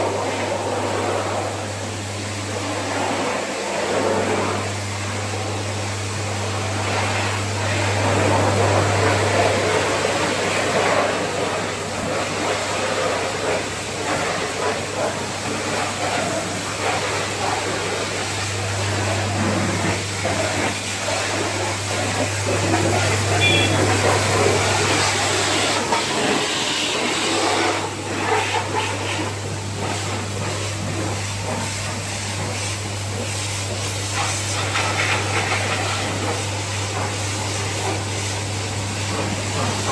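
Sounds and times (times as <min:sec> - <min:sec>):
pressure washer motor hum: 0:00.0 - 0:39.9
water jet spraying: 0:00.0 - 0:39.9.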